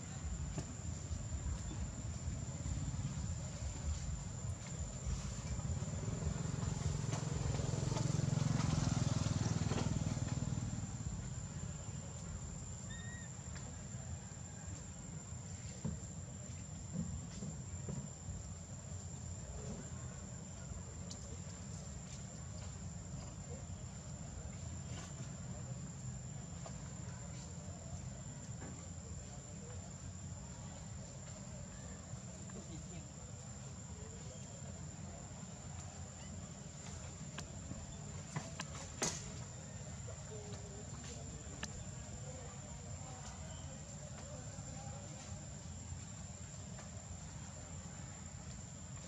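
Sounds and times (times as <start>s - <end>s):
faint low rumble: 0.0s - 49.0s.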